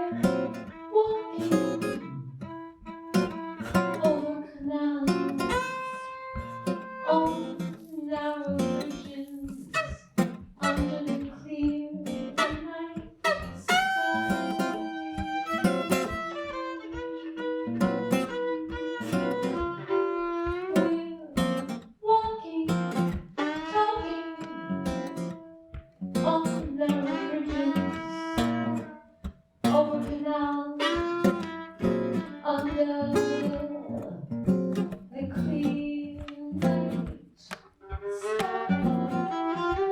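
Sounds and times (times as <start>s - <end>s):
acoustic guitar picking: 0.0s - 39.9s.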